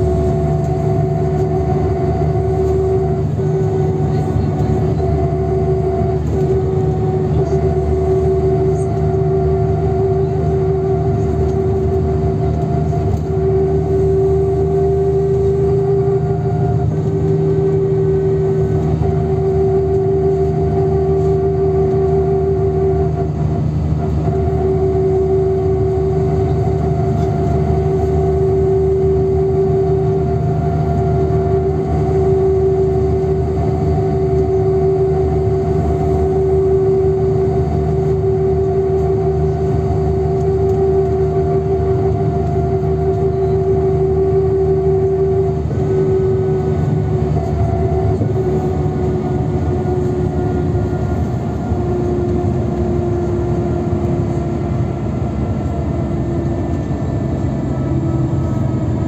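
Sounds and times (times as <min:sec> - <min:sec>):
bus engine and road rumble: 0:00.0 - 0:59.0
high drivetrain whine: 0:00.0 - 0:59.0.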